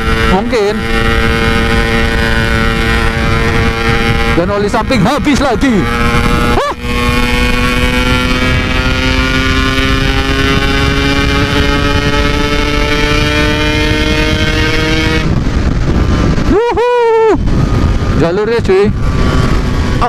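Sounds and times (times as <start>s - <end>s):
two-stroke motorcycle engine: 0.0s - 16.4s
wind on microphone: 0.0s - 20.0s.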